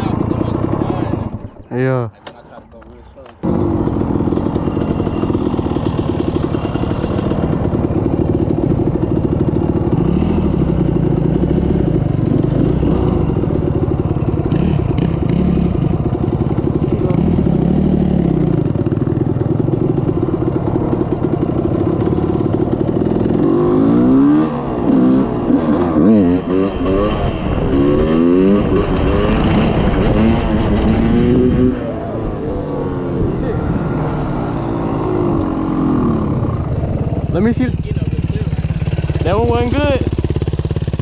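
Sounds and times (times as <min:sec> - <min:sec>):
quad engine revving: 0:00.0 - 0:01.9, 0:03.4 - 0:41.0.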